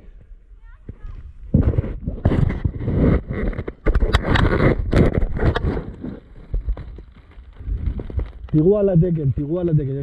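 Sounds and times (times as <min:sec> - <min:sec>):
microphone handling noise: 0:00.0 - 0:09.2
rustling: 0:01.0 - 0:10.0.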